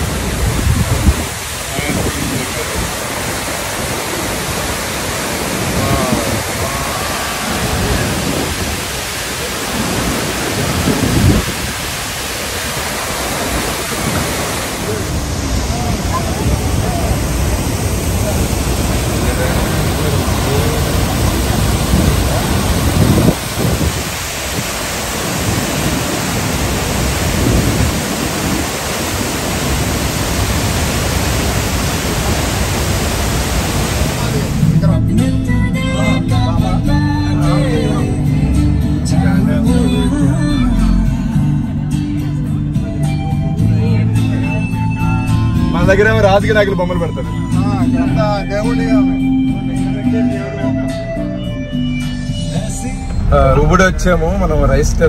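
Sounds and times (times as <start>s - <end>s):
waterfall rushing: 0.0s - 36.3s, 44.3s - 51.1s, 52.3s - 55.0s.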